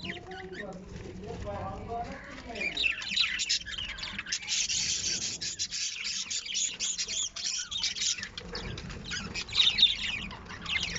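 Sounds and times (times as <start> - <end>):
lovebirds chattering: 0.0 - 10.9.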